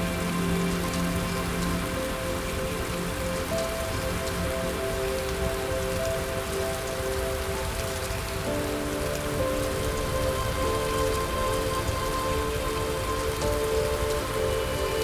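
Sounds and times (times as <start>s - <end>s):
soft music of held notes: 0.0s - 15.0s
steady rain falling: 0.0s - 15.0s.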